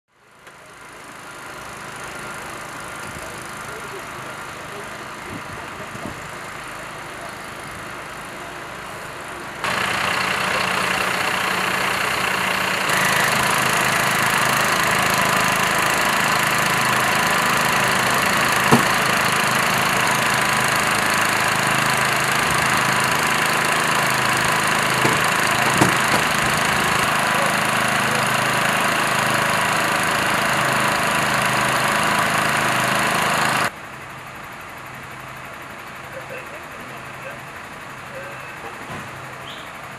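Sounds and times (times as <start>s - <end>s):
engine running steadily: 0.1s - 39.9s.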